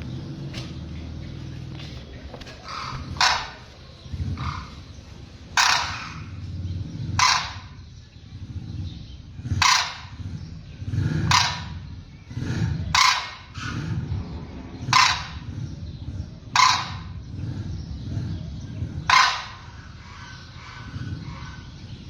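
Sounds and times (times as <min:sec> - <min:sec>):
harsh crow-like bird calls: 0:00.0 - 0:22.0
low rumbling background: 0:00.0 - 0:22.0.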